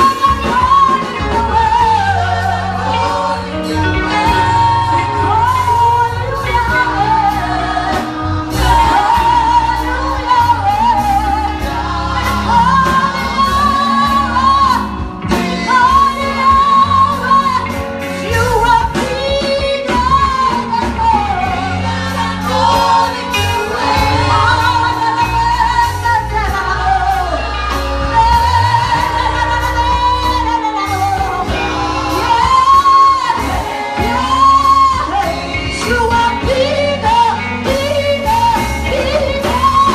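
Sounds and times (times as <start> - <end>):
band with bass and drums: 0.0 - 39.9
person singing gospel: 0.0 - 39.9.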